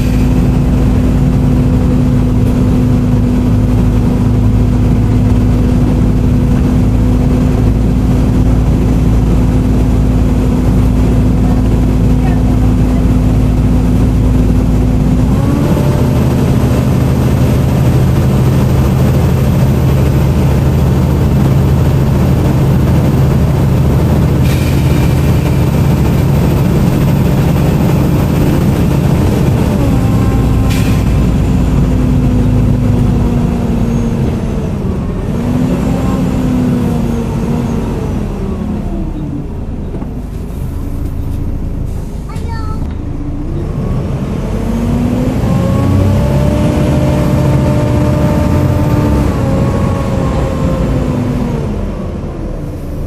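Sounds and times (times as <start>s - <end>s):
bus diesel engine whining: 0.0s - 53.0s.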